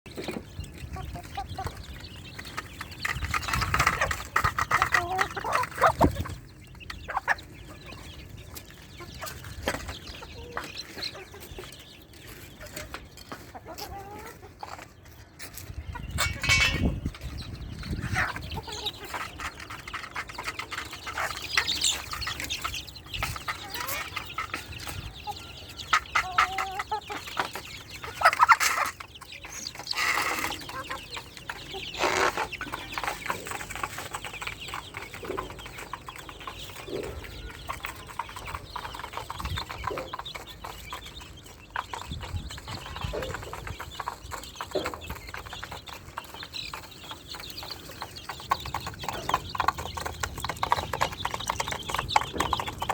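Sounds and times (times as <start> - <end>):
chickens clucking: 0.1 - 52.9
chickens squawking: 0.1 - 52.9.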